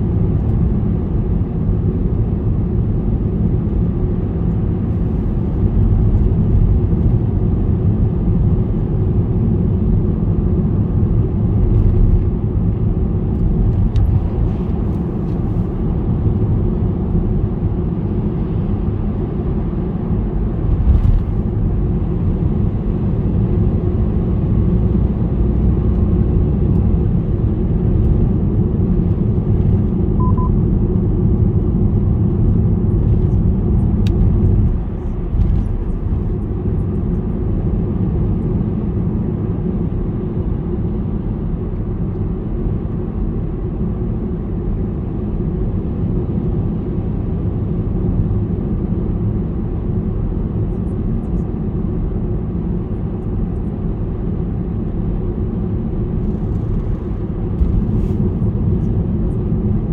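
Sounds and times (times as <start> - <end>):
car driving on highway: 0.0 - 59.9.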